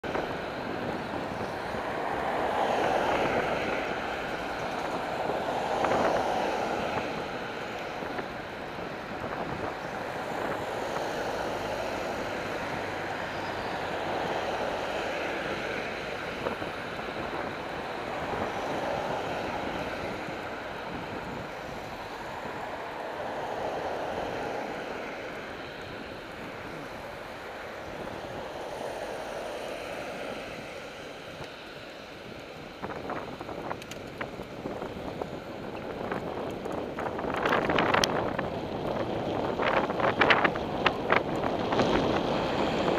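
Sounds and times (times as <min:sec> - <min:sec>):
traffic passing: 0:00.0 - 0:42.9
wind rushing on microphone: 0:00.0 - 0:42.9.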